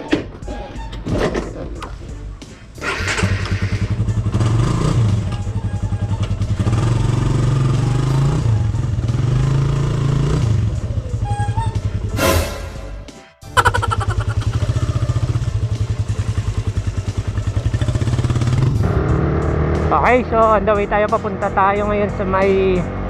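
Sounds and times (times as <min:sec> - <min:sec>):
motorcycle engine revving: 0:02.2 - 0:12.7, 0:13.9 - 0:22.0.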